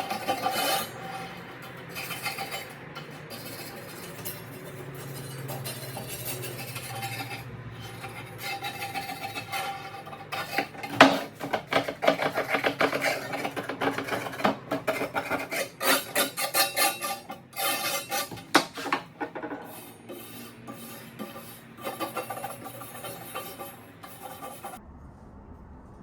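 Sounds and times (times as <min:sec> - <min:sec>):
scrubbing metal blade: 0:00.0 - 0:24.8.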